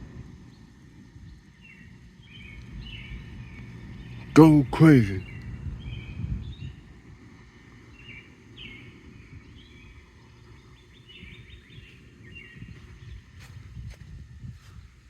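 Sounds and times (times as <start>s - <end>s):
wind rumbling on microphone: 0.0s - 4.3s, 5.2s - 15.0s
birds chirping: 0.5s - 6.8s, 7.6s - 14.0s.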